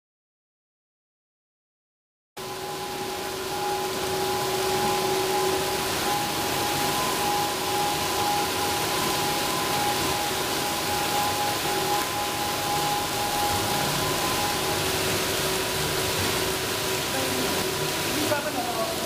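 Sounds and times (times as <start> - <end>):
machine whine: 2.4 - 19.0
water spraying: 2.4 - 19.0.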